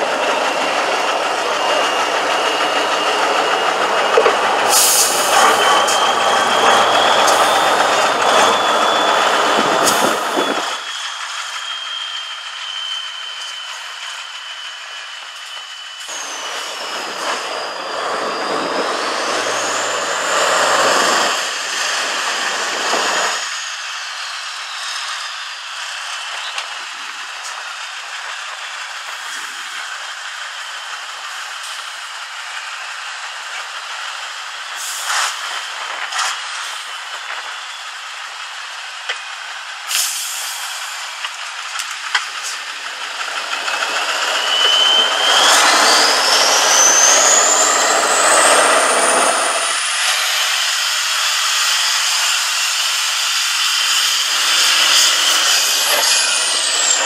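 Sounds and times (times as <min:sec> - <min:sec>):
truck diesel engine revving: 0:00.0 - 0:11.6, 0:16.0 - 0:26.6, 0:27.2 - 0:57.0
high whine: 0:00.0 - 0:57.0.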